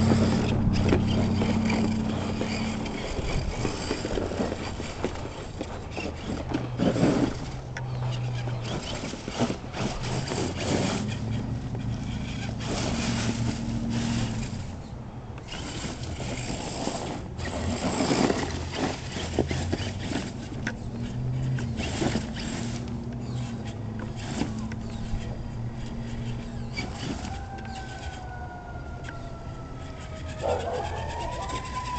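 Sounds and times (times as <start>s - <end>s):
electric motor whining: 0.0s - 31.9s
tires crunching over ground: 0.0s - 31.9s.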